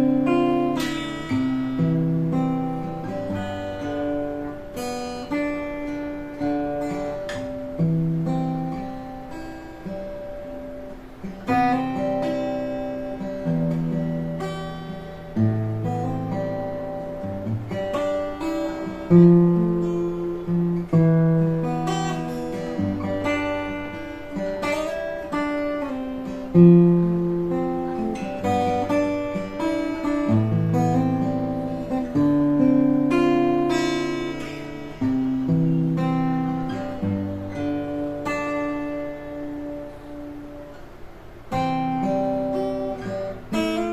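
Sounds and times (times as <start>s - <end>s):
acoustic guitar playing: 0.0s - 43.9s.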